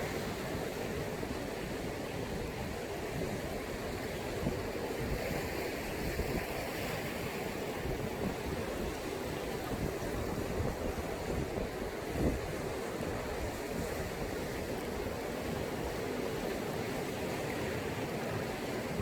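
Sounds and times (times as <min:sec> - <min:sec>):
waves breaking on shore: 0:00.0 - 0:19.0.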